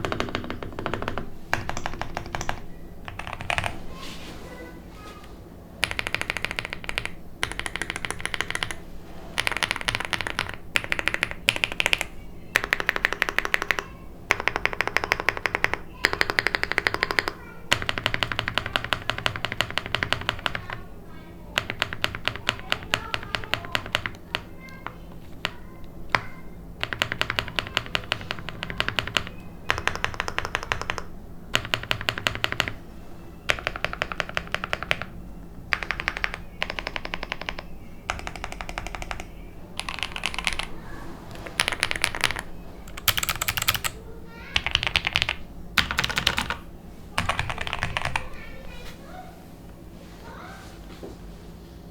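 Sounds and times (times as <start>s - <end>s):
mechanical keyboard typing: 0.0s - 3.8s, 5.8s - 8.8s, 9.4s - 20.8s, 21.5s - 32.8s, 33.5s - 44.0s, 44.6s - 46.6s, 47.2s - 48.5s.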